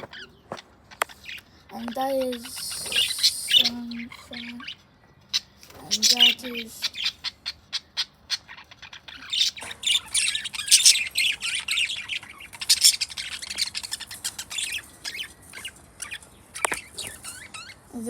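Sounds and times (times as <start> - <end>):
budgerigars chattering: 0.0 - 18.0.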